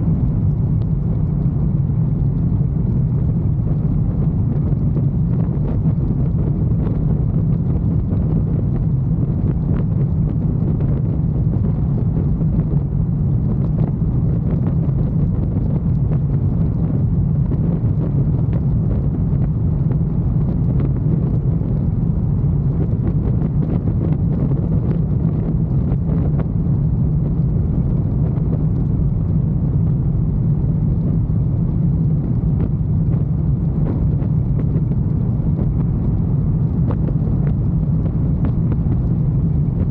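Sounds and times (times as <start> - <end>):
wind noise: 0.0 - 39.9.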